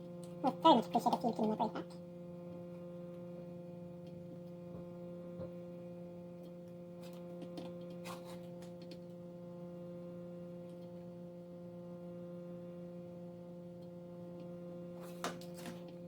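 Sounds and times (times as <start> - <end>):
faint low electrical hum: 0.0 - 16.0.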